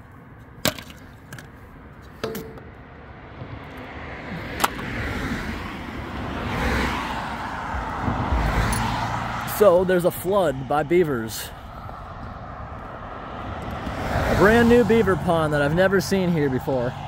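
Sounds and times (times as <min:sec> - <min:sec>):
car passing: 0:02.7 - 0:17.0.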